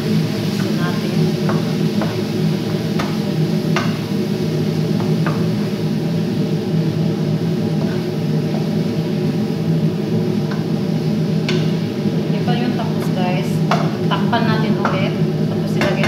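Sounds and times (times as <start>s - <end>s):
steady low hum: 0.0s - 16.0s
wooden spoon stirring in a pot: 0.3s - 16.0s.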